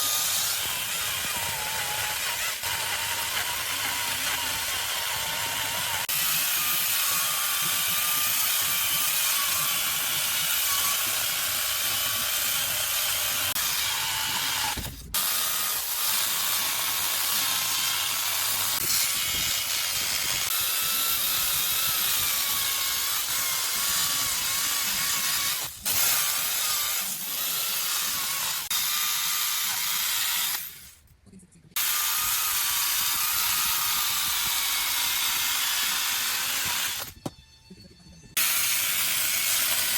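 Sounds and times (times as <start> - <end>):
chainsaw cutting wood: 0.0 - 30.8, 31.8 - 37.2, 38.4 - 39.9.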